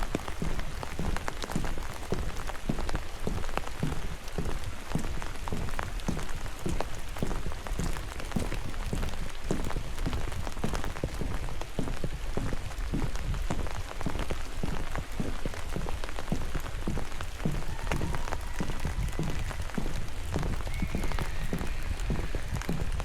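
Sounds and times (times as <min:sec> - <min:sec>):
raindrops hitting: 0:00.0 - 0:23.0.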